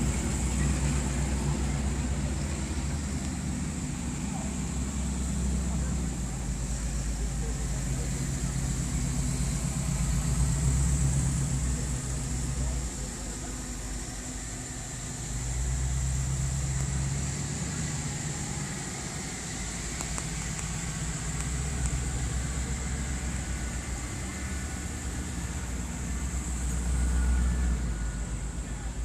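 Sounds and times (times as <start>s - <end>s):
car engines rumbling past: 0.0s - 29.0s
steady high hiss: 0.0s - 29.0s.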